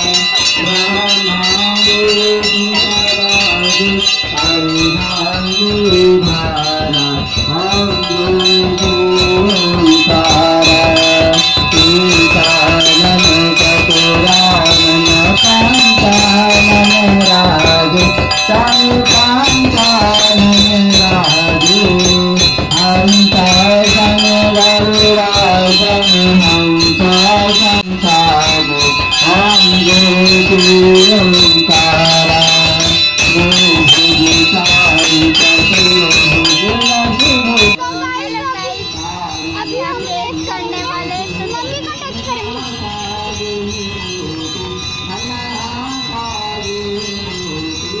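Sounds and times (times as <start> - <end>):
song with rattling percussion: 0.0 - 48.0.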